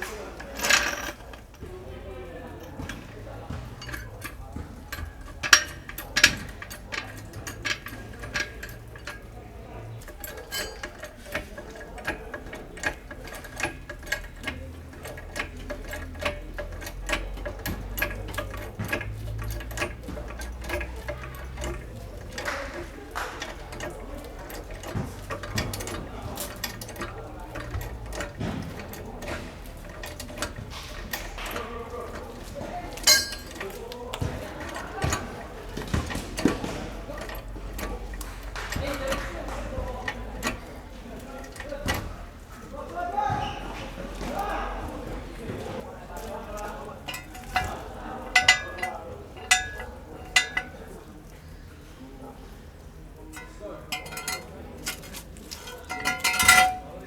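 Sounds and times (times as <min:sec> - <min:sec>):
ratchet clicking: 0:00.0 - 0:43.3, 0:44.0 - 0:51.0, 0:53.2 - 0:57.0
metal tool clinks: 0:00.1 - 0:42.9, 0:46.2 - 0:51.0, 0:53.3 - 0:57.0.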